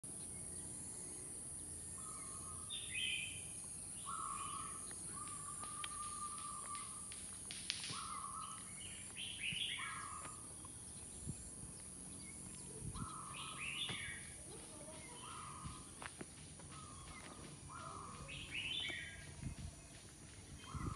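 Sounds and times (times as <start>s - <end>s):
steady high-pitched hiss: 0.1s - 20.9s
birds calling: 1.5s - 20.9s.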